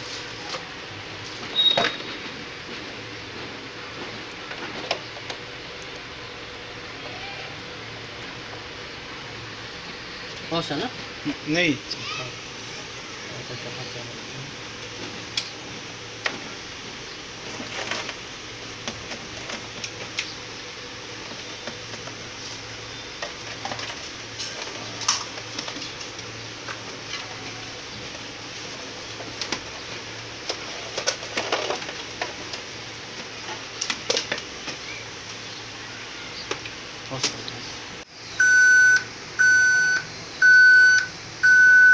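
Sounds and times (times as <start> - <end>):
steady hiss: 0.0 - 40.4.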